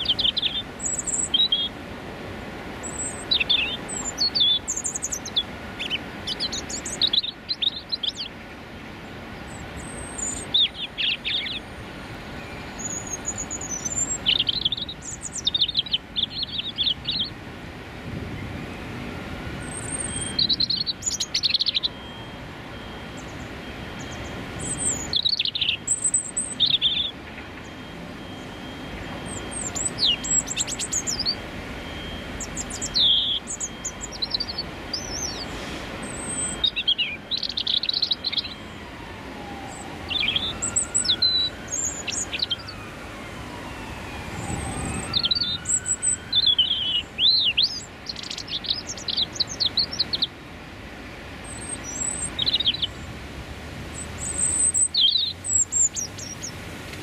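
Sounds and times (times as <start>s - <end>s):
robin singing: 0.0s - 1.8s, 2.8s - 17.4s, 18.4s - 42.9s, 43.6s - 50.4s, 51.4s - 53.1s, 53.8s - 56.6s
city traffic rumble: 0.0s - 57.0s.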